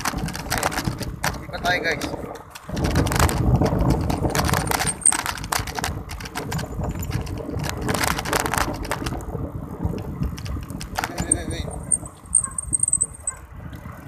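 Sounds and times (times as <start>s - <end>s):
bicycle rattling: 0.0s - 14.0s
wind rumble on microphone: 0.0s - 14.0s.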